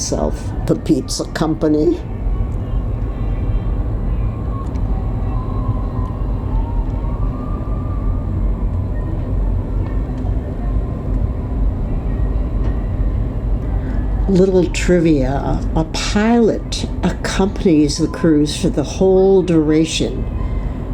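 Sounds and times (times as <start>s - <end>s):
faint distant voices: 0.0s - 20.9s
ship engine low rumble: 0.0s - 20.9s.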